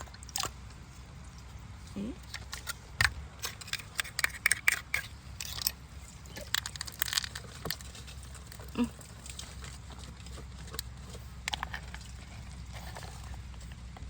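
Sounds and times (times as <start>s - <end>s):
shell clicking and crunching: 2.2s - 13.8s.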